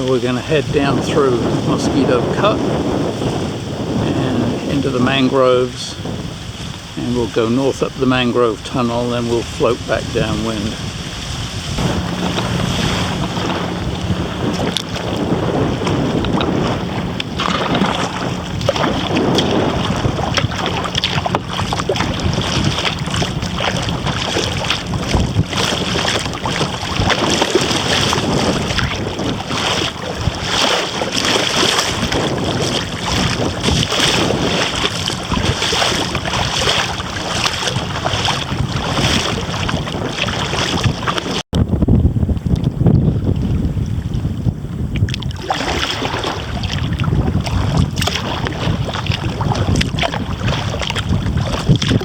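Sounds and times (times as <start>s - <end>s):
water splashing around kayak: 0.0s - 52.0s
wind buffeting microphone: 0.0s - 52.0s.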